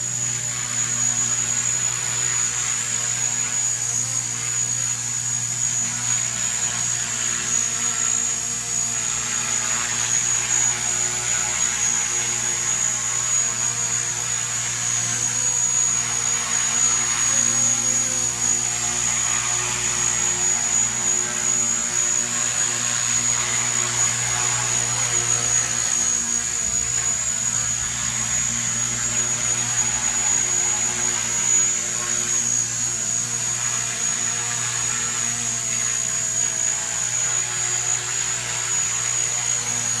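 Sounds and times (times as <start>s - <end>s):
model helicopter rotor hum and whine: 0.0s - 40.0s.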